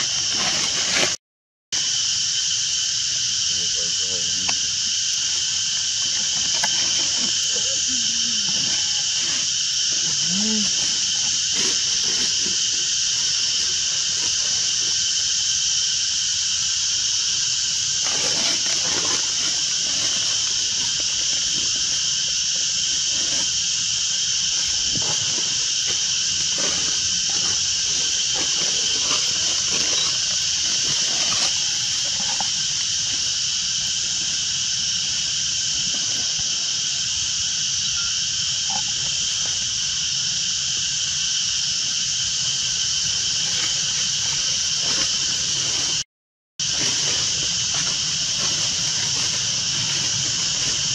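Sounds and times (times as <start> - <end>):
insect chorus: 0.0 - 46.0, 46.6 - 50.9.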